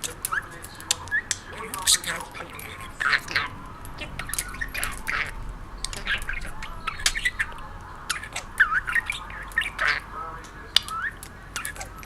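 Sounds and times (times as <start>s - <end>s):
budgerigar chattering: 0.0s - 12.0s.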